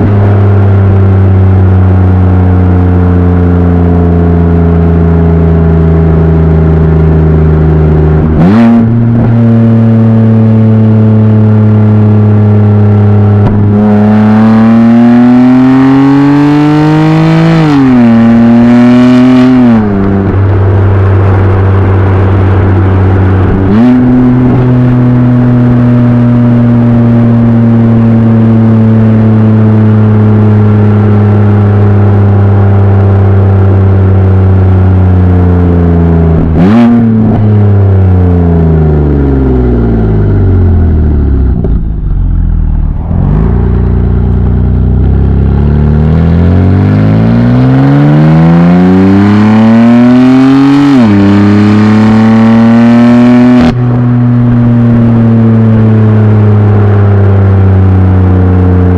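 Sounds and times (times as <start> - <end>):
car exhaust revving: 0.0 - 58.9.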